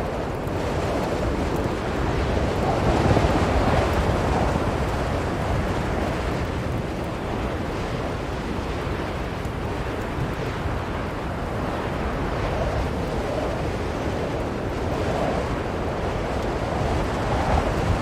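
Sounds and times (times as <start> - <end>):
blizzard wind blowing: 0.0 - 18.0.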